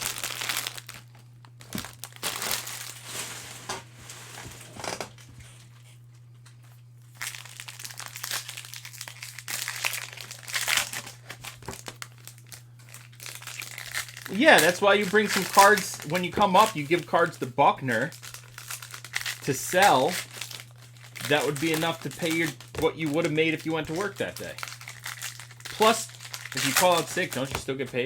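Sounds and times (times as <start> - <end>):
cellophane wrappers crinkling: 0.0 - 4.6, 6.5 - 28.0
low electrical hum: 0.0 - 28.0.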